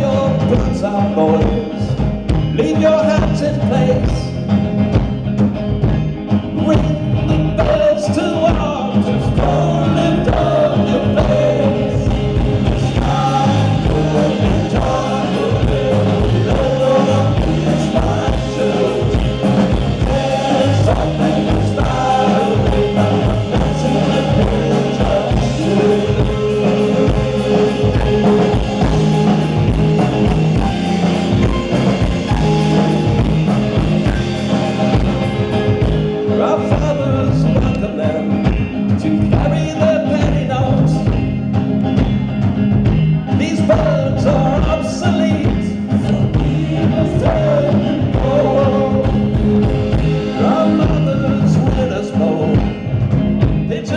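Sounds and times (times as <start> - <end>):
man singing: 0.0 - 4.5, 6.5 - 33.3, 36.2 - 41.4, 43.2 - 52.9, 53.6 - 53.9
live country band playing: 0.0 - 53.9.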